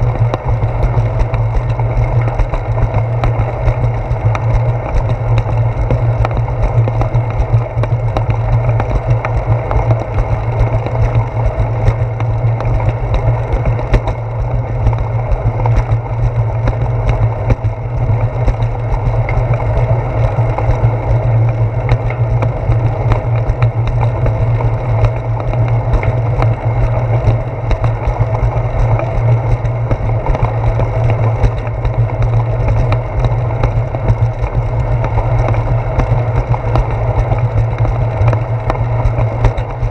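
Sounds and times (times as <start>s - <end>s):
bicycle tyre rumble on concrete: 0.0s - 39.9s.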